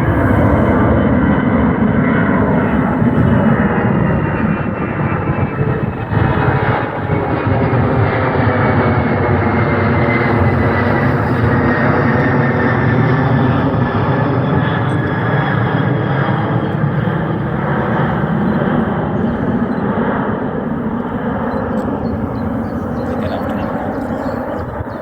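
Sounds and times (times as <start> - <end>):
aircraft engines running: 0.0 - 25.0.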